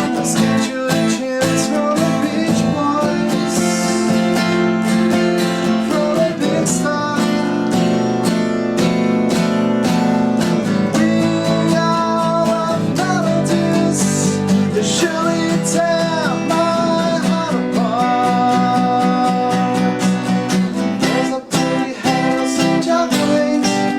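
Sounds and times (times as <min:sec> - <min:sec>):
strummed acoustic guitar: 0:00.0 - 0:23.9.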